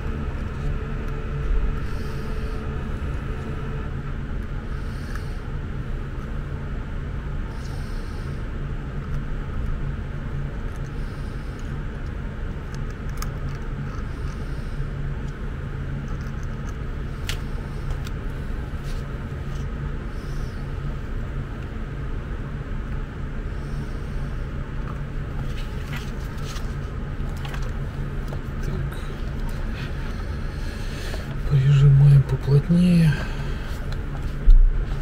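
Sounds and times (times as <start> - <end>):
machinery hum: 0.0 - 35.0.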